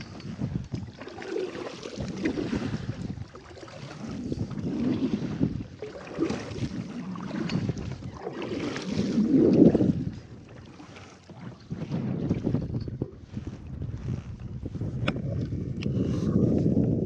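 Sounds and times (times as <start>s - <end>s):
wind gusting across microphone: 0.0s - 1.0s, 1.9s - 10.4s, 11.4s - 17.0s.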